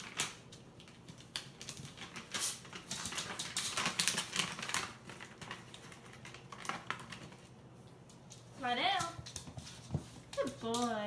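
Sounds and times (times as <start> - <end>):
dog toenails clicking on floor: 0.0 - 11.0.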